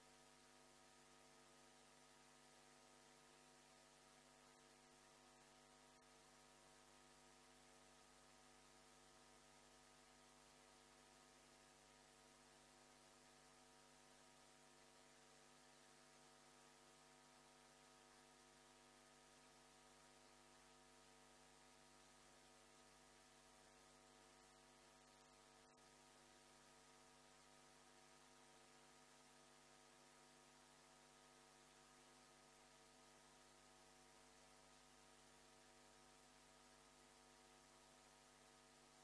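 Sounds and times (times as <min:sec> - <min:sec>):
faint electrical hum: 0:00.0 - 0:39.0.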